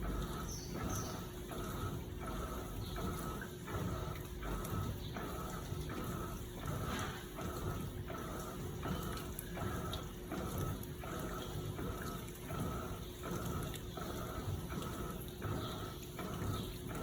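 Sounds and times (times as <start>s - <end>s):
washing machine water swishing: 0.0s - 17.0s.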